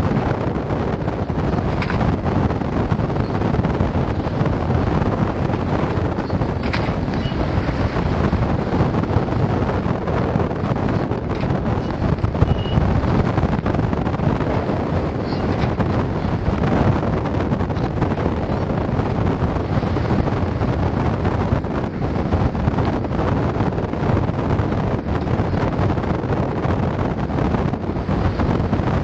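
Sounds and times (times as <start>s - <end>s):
sea: 0.0s - 29.0s
wind buffeting microphone: 0.0s - 29.0s.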